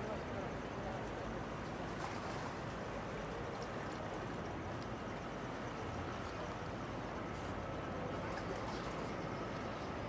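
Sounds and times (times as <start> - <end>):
bow wave rushing on water: 0.0 - 10.0.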